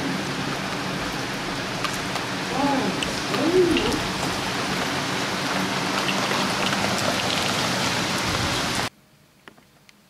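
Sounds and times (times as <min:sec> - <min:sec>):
heavy rain pouring: 0:00.0 - 0:08.9.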